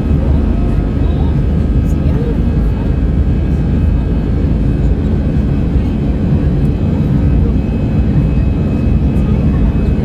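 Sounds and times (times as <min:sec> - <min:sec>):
faint engine whine: 0:00.0 - 0:10.0
jet engines rumbling: 0:00.0 - 0:10.0.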